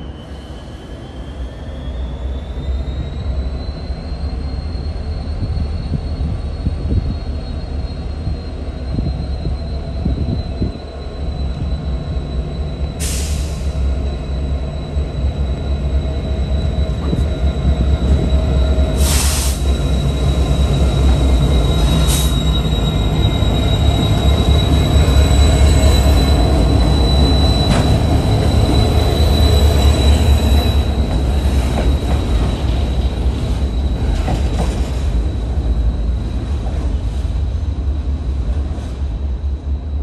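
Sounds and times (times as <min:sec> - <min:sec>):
high-pitched wheel squeal: 0:00.0 - 0:36.4
rail car rolling: 0:00.0 - 0:40.0
locomotive engines rumbling: 0:03.2 - 0:39.9.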